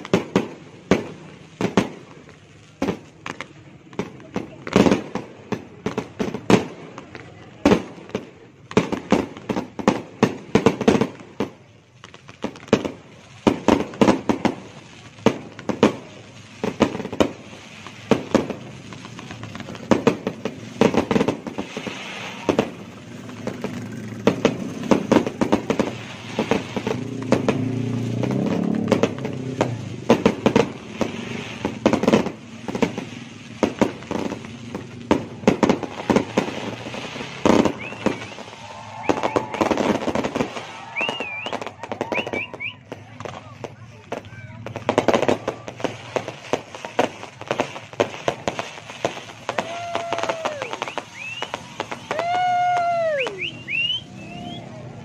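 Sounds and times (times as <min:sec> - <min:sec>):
fireworks bangs and pops: 0:00.0 - 0:55.0.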